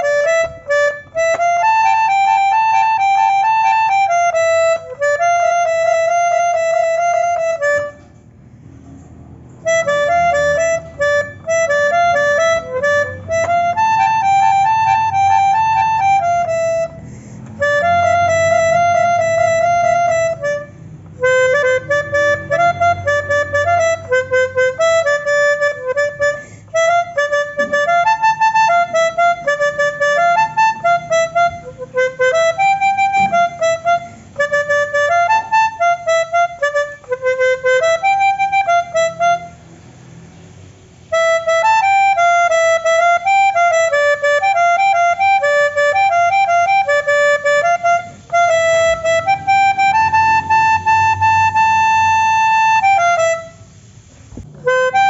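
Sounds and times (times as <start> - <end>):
melodica melody: 0.0 - 55.0.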